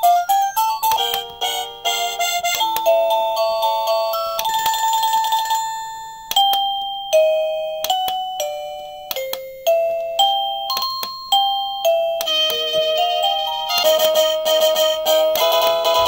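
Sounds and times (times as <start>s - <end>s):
doorbell chime tunes: 0.0s - 14.6s.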